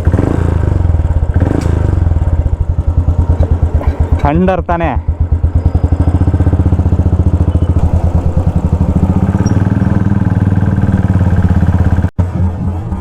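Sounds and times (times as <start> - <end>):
motorcycle engine through loud exhaust: 0.0 - 13.0.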